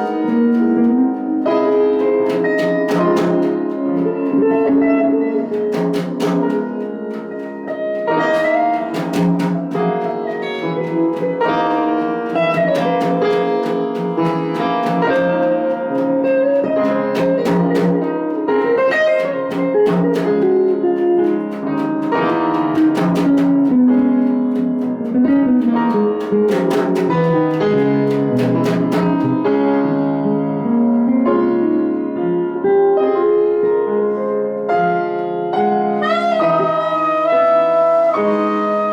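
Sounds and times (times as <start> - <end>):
sliding melody line: 0.0 - 29.5, 35.2 - 38.9
instrumental jazz band: 0.0 - 38.9.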